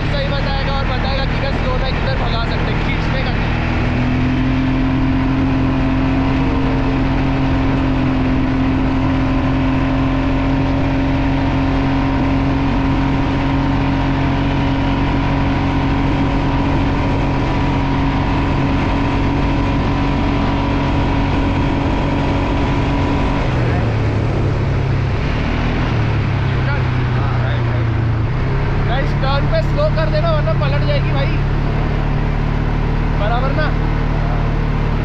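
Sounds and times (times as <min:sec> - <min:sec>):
quad bike engine running: 0:00.0 - 0:35.0.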